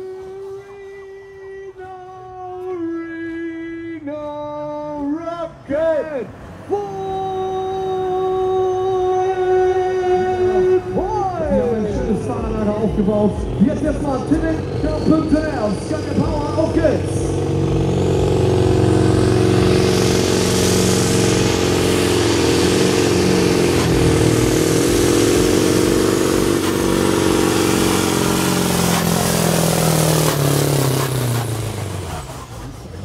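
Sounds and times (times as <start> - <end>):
diesel truck engine at high revs: 5.8 - 33.0.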